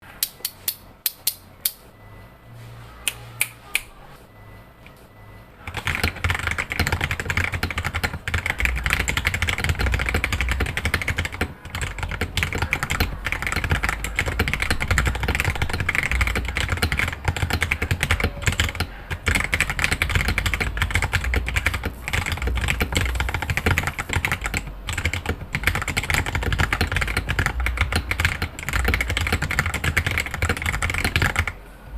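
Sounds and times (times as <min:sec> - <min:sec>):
typing on mechanical keyboard: 0:05.6 - 0:31.6.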